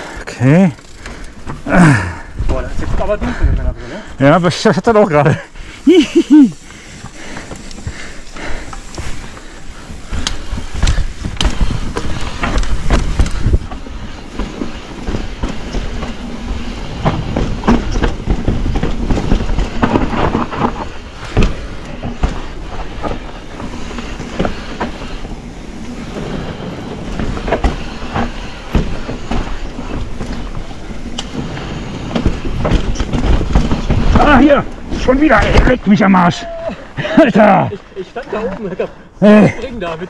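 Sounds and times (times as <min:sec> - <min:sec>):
bike rattling over rocks: 0:00.0 - 0:36.4.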